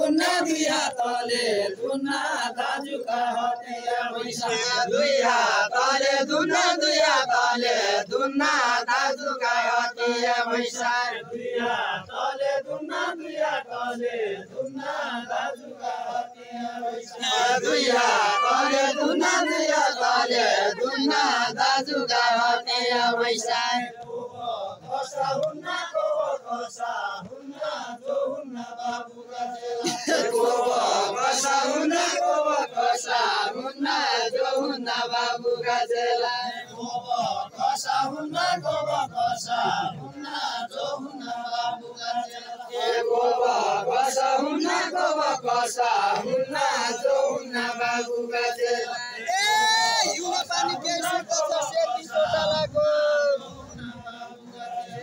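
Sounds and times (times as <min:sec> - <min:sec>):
men singing together: 0:00.0 - 0:55.0.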